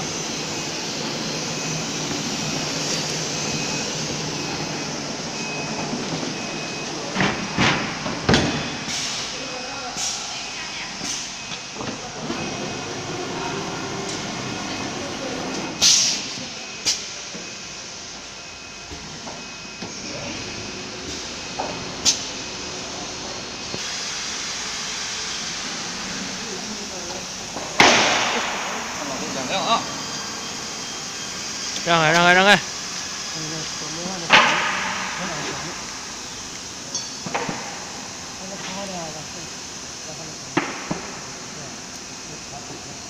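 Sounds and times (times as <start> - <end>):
woodworking machine running: 0.0 - 8.0, 11.4 - 15.8, 16.4 - 43.0.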